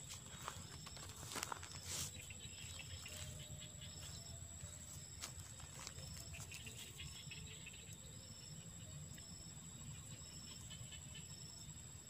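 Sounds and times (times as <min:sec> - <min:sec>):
insect chirp: 0:00.0 - 0:12.0
insects whining: 0:00.0 - 0:12.0.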